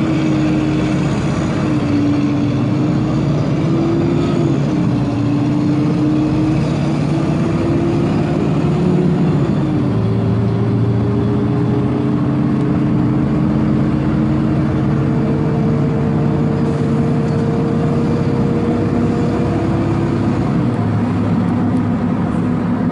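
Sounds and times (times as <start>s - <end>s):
diesel bus engine running: 0.0s - 22.9s.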